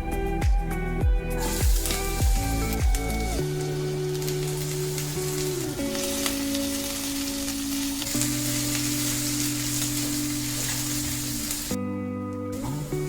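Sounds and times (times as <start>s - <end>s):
background music of held chords: 0.0s - 13.0s
food sizzling in hot oil: 1.3s - 11.8s.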